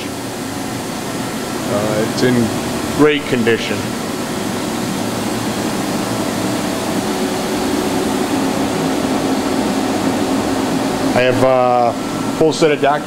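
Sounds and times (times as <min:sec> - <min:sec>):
electrical cabinet hum and fan: 0:00.0 - 0:13.0.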